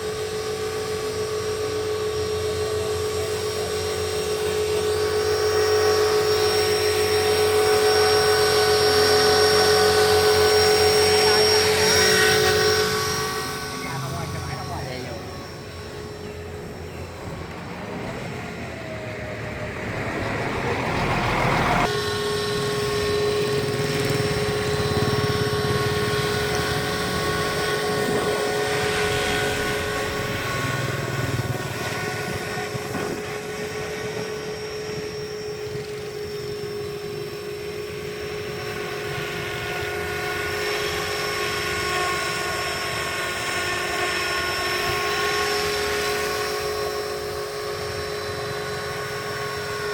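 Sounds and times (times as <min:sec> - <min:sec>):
model helicopter rotor whine: 0:00.0 - 0:49.9.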